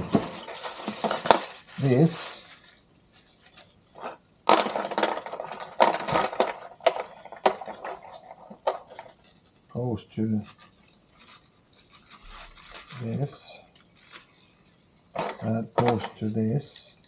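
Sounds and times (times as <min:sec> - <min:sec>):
small parts clicking and rattling: 0:00.0 - 0:17.0.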